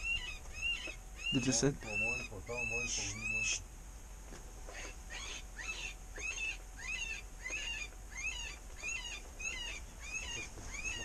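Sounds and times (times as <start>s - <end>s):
electronic animal distress squeals: 0.0s - 3.6s, 4.7s - 11.0s.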